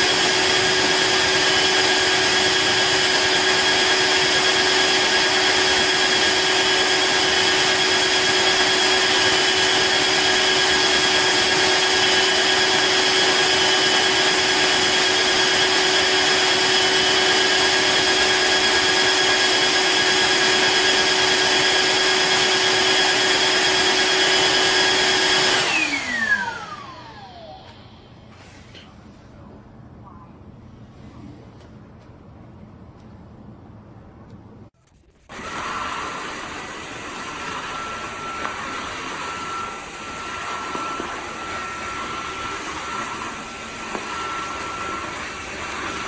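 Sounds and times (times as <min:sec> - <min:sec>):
vacuum cleaner motor whining: 0:00.0 - 0:28.9, 0:35.3 - 0:46.0.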